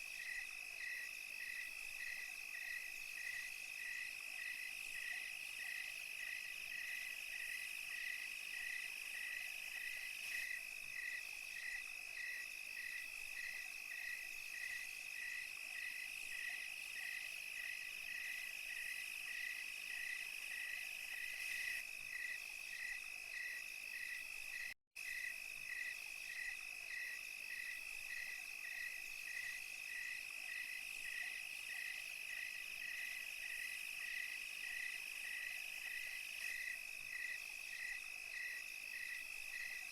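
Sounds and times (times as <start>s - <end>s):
cricket chirping: 0.0s - 39.9s
insects trilling: 0.0s - 39.9s.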